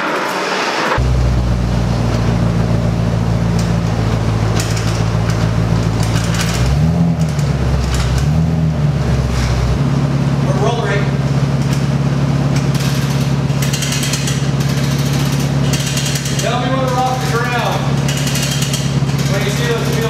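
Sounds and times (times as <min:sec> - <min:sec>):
pickup truck engine running: 0:01.0 - 0:20.0.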